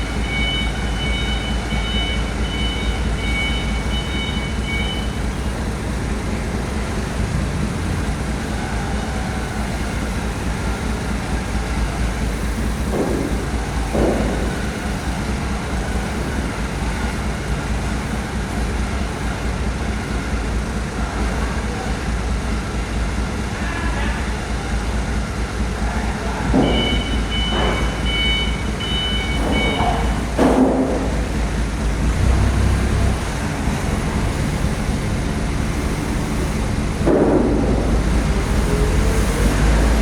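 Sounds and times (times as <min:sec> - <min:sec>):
truck diesel engine rumbling: 0:00.0 - 0:40.0.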